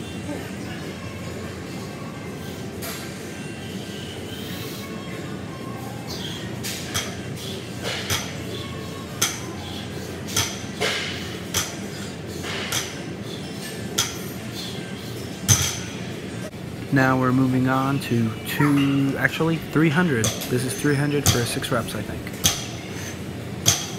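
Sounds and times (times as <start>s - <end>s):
steady background noise: 0.0s - 23.9s.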